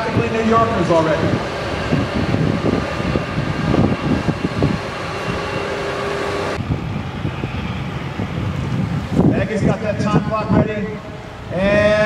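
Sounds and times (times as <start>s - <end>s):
tugboat engine rumbling: 0.0s - 12.0s.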